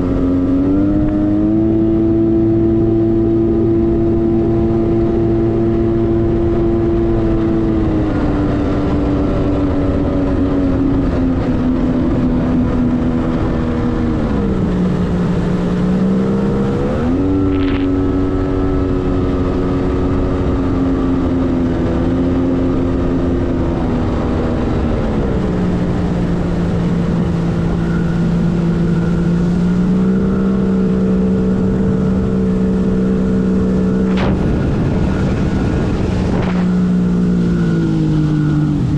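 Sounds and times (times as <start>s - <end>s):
watercraft engine revving: 0.0s - 38.9s.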